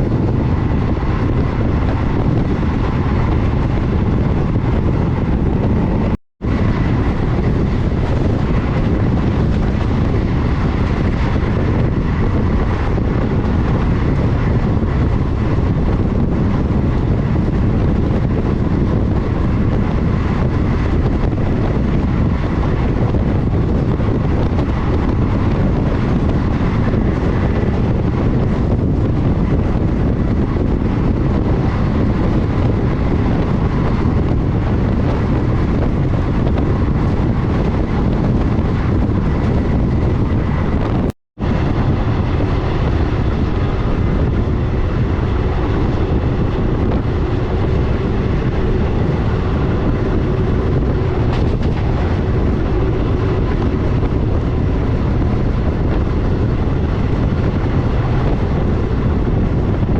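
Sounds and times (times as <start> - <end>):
train wheels rumbling on rails: 0.0 - 59.9
wind rushing past microphone: 0.0 - 59.9.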